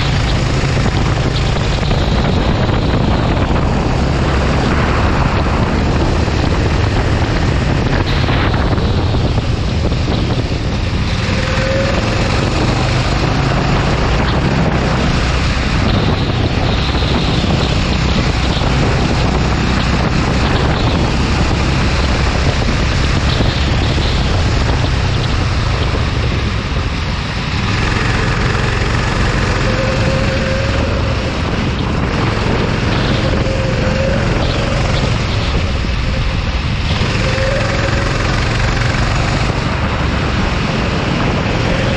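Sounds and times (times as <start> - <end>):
racing kart engine running: 0.0 - 41.9
wind noise on microphone: 0.0 - 41.9.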